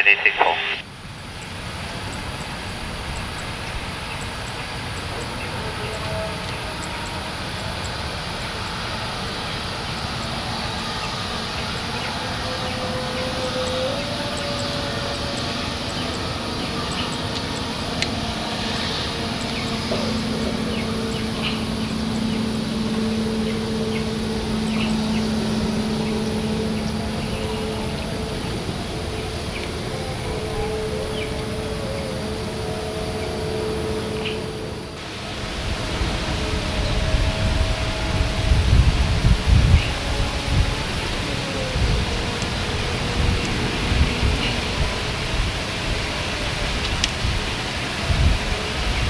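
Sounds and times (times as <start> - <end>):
distant jet engines running: 0.0 - 49.0.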